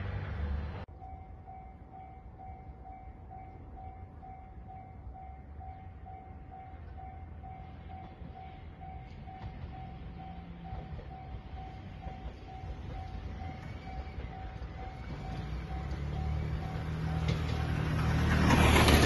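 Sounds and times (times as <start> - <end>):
level crossing warning bell: 0.9 - 18.2.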